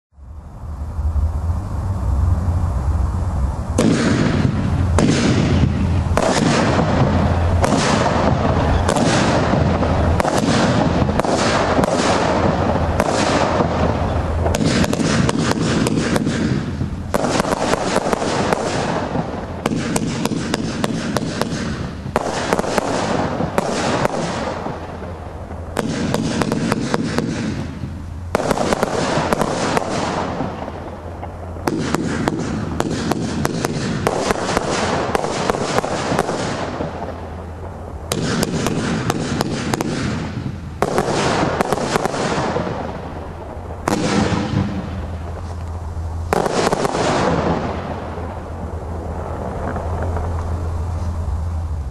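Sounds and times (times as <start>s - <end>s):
firework shots and crackle: 1.1s - 51.9s.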